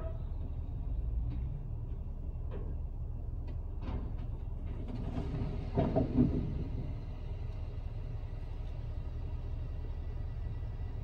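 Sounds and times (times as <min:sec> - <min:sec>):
vehicle idling: 0:00.0 - 0:11.0.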